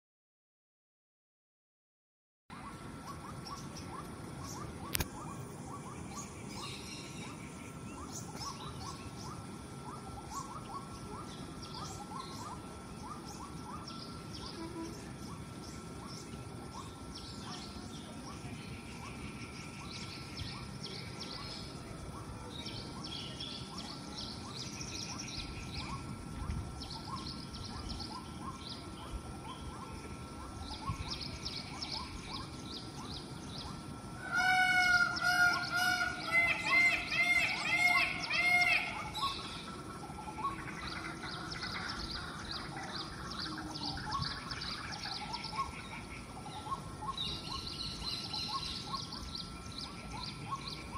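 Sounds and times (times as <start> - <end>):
small birds chirping: 2.6 - 34.1, 34.9 - 50.9
peacock calls: 2.6 - 50.9.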